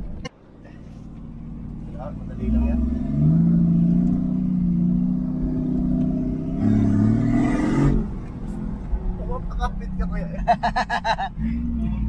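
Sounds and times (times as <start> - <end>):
off-road vehicle engine revving: 0.9 - 12.0.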